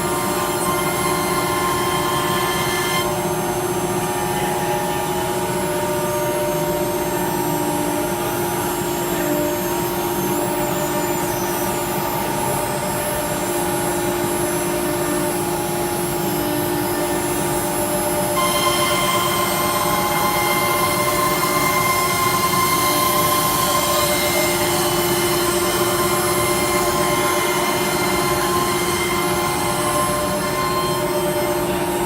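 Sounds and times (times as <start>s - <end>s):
router machine hum and whine: 0.0s - 32.0s.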